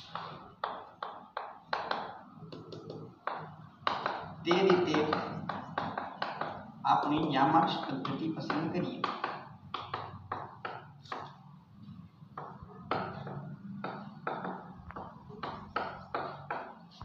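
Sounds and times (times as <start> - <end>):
chalk tapping on blackboard: 0.0 - 11.5, 12.3 - 17.0.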